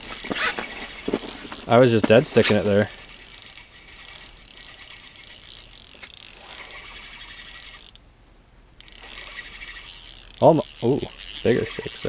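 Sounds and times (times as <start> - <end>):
fishing reel clicking and whirring: 0.0 - 8.0, 8.8 - 12.0.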